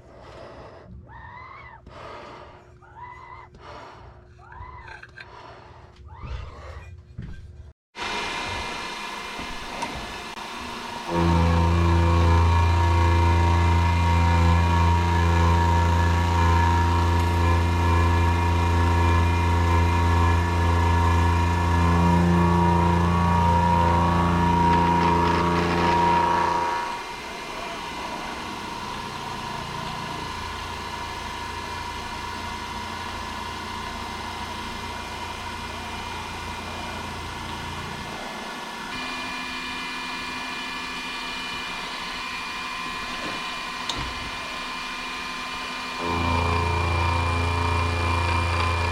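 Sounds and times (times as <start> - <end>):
milling machine motor hum: 8.0 - 48.9.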